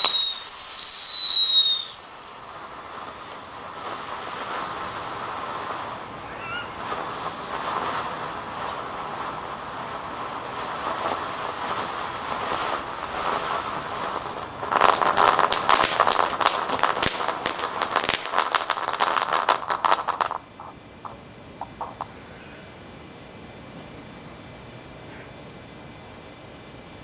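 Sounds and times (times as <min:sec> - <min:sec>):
small firework pops: 0:00.0 - 0:22.2
spark fountain hissing: 0:00.0 - 0:22.2
fireworks rapid crackling: 0:00.0 - 0:22.6.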